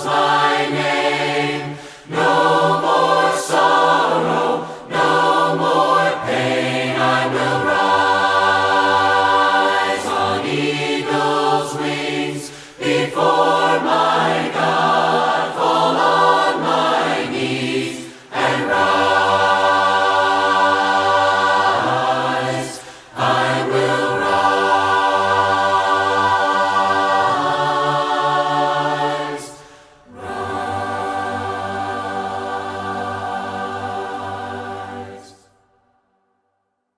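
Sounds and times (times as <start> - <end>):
voices singing a hymn a cappella: 0.0 - 35.8.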